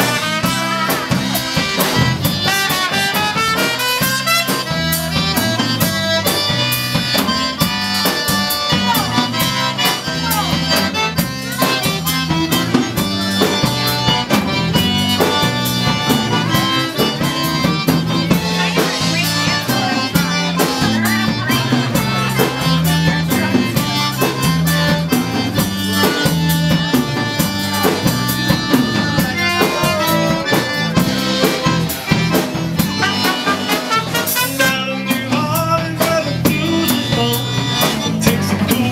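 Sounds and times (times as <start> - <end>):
accordion: 0.0 - 38.9
drum kit beat: 0.0 - 38.9
electric bass line: 0.0 - 38.9.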